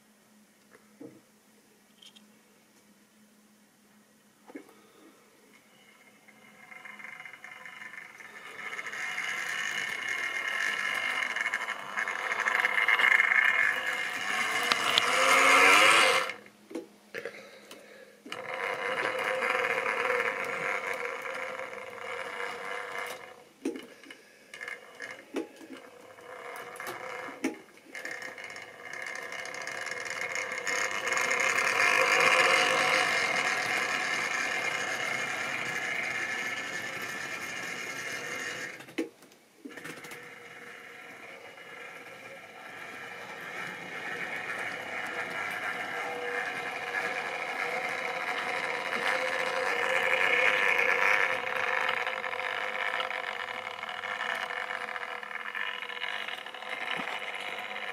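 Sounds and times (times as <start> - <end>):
model train motor whirring: 5.5 - 16.5, 18.3 - 39.0, 39.7 - 57.9
wheels rattling over rails: 5.7 - 16.5, 18.3 - 39.0, 39.7 - 57.9.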